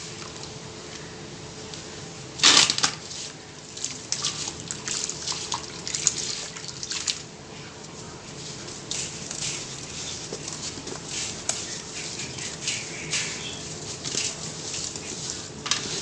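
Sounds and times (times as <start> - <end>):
wet crackling and dripping: 1.7 - 16.0.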